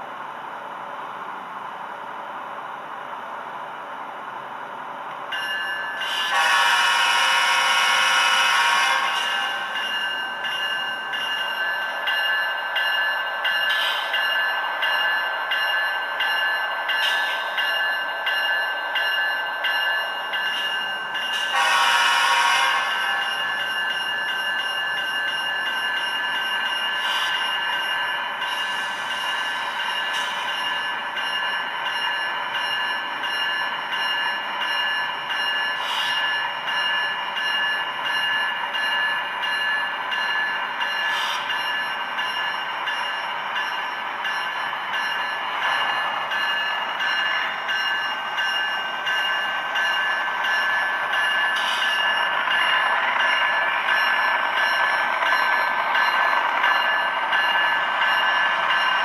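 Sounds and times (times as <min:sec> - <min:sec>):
model locomotive diesel engine sound: 0:00.0 - 0:59.0.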